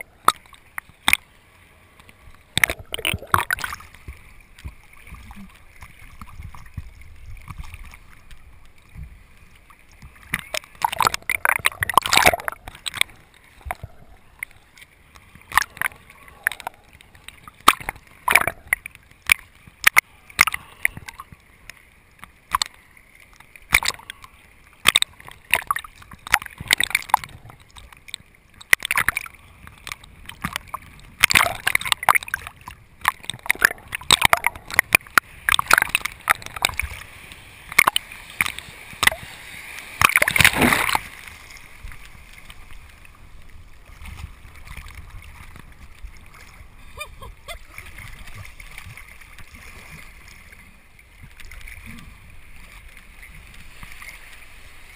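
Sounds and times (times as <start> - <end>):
sea water splashing on camera: 0.0 - 54.9.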